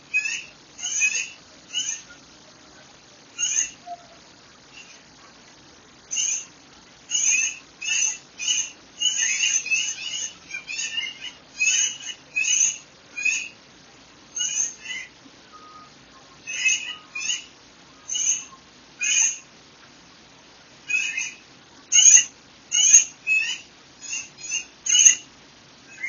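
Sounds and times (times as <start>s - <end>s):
faint background hiss: 0.0s - 26.0s.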